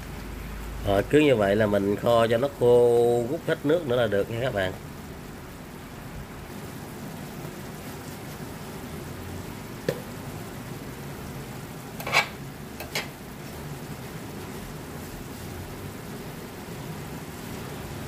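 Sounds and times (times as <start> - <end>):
liquid simmering and sizzling in wok: 0.0 - 18.0.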